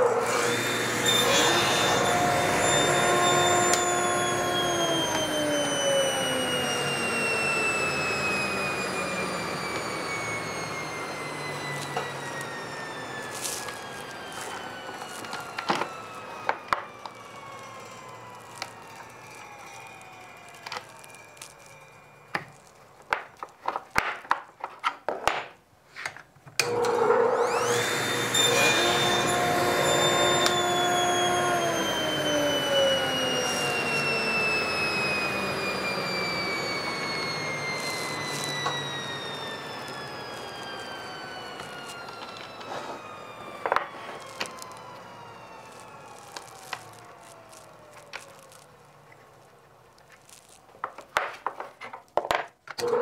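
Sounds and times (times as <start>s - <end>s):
saw cutting wood: 0.0s - 22.7s, 26.6s - 48.6s
table saw whining: 0.0s - 25.5s, 26.6s - 53.0s.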